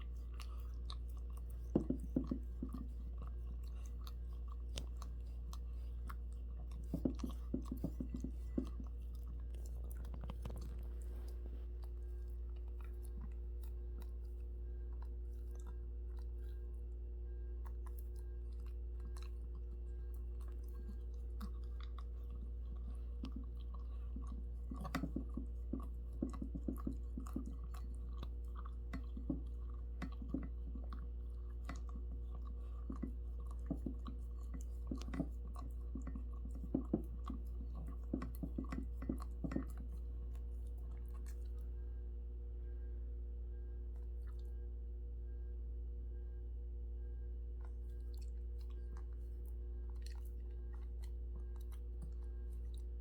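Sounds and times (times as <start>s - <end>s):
pet chewing food: 0.0s - 42.0s, 43.8s - 44.7s, 47.4s - 53.0s
low electrical hum: 0.0s - 53.0s.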